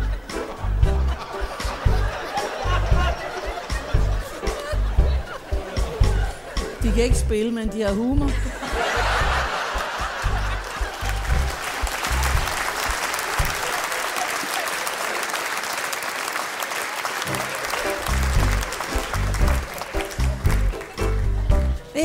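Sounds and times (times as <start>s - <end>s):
band playing low rhythmic beat: 0.0s - 14.0s, 17.3s - 22.0s
audience applauding: 1.2s - 6.6s, 8.7s - 21.9s.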